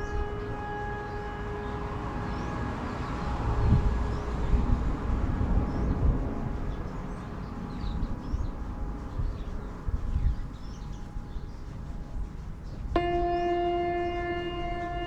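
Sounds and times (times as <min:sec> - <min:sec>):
faint steady tones: 0:00.0 - 0:15.0
small birds chirping: 0:00.0 - 0:15.0
train rumbling past: 0:00.0 - 0:15.0.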